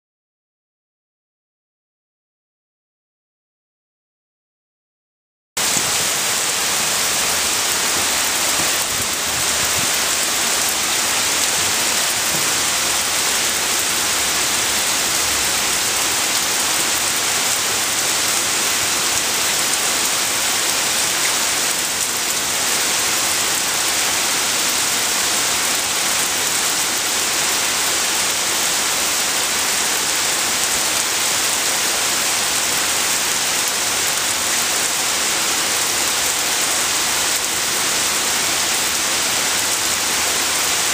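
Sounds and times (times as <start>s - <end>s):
heavy rain on wet asphalt: 5.6s - 40.9s.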